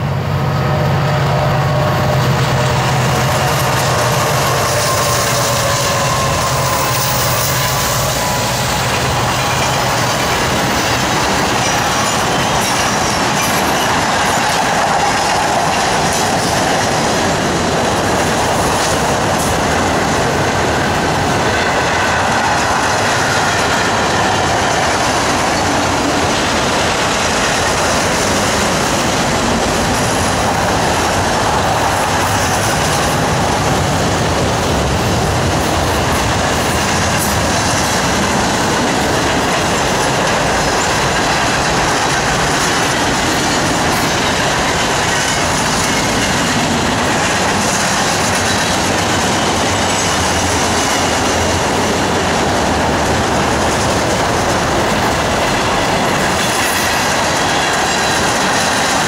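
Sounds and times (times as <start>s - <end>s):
locomotive engines droning: 0.0s - 59.0s
train wheels clattering on rails: 0.0s - 59.0s.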